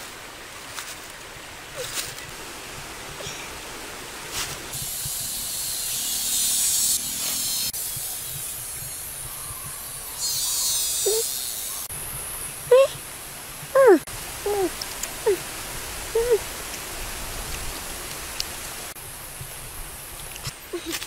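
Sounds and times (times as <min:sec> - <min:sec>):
high hiss of outdoor ambience: 0:00.0 - 0:21.0.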